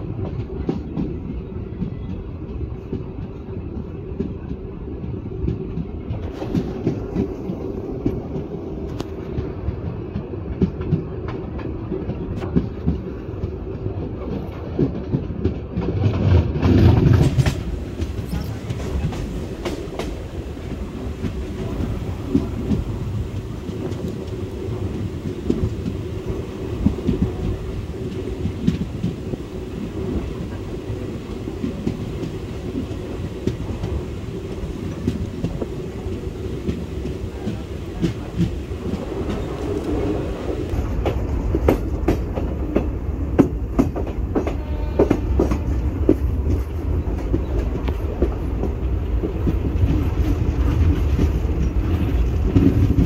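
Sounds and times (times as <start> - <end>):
low rumble of train coaches: 0.0 - 53.0
wheels clacking over rail joints: 5.4 - 53.0.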